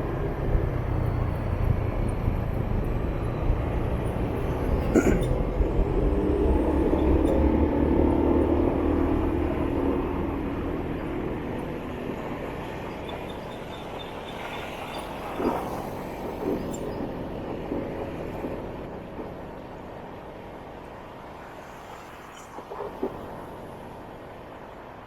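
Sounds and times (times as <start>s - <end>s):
city traffic: 0.0s - 25.0s.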